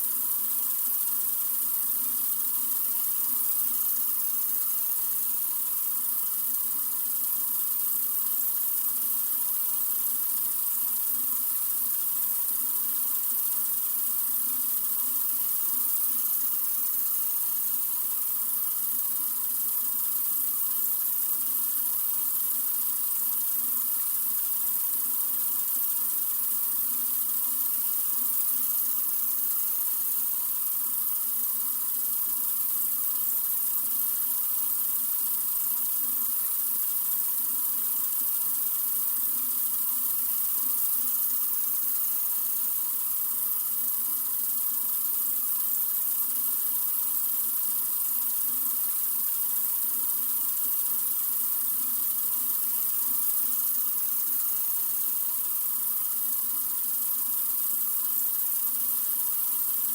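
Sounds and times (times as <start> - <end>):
water running from sink faucet: 0.0 - 59.9.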